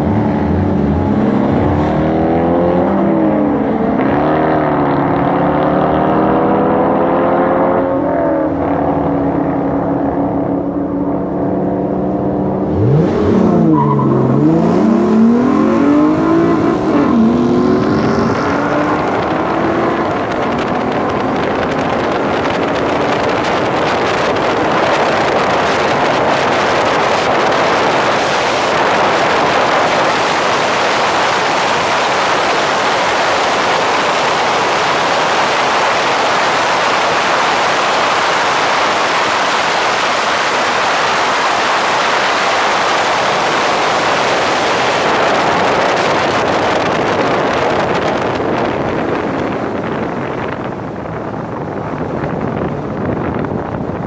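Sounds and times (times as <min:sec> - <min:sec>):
car running noise: 0:00.0 - 0:54.0
wind rushing over camera: 0:06.1 - 0:54.0.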